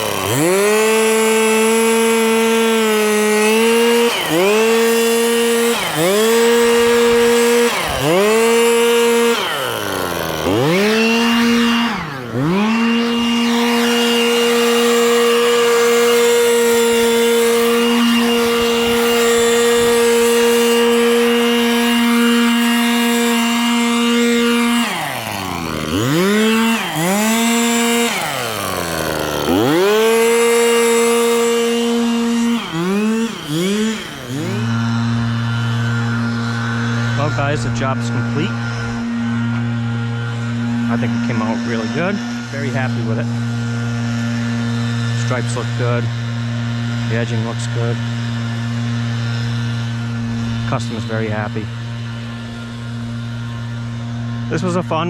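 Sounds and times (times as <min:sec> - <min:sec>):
two-stroke power tool engine revving: 0:00.0 - 0:55.0.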